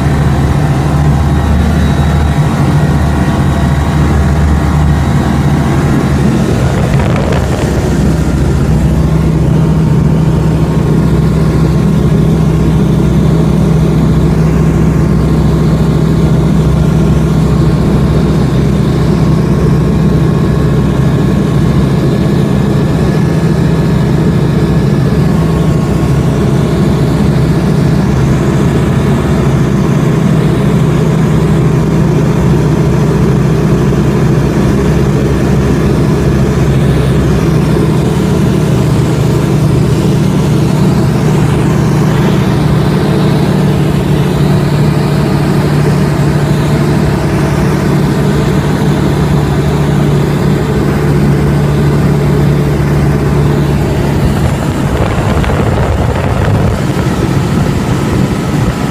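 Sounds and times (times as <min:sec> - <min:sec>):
aircraft engine droning: 0:00.0 - 0:58.9.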